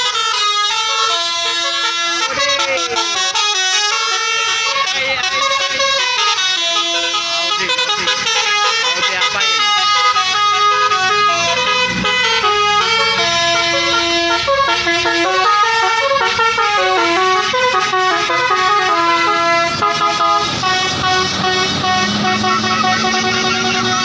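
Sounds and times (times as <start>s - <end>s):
bus horn playing a tune: 0.0s - 24.0s.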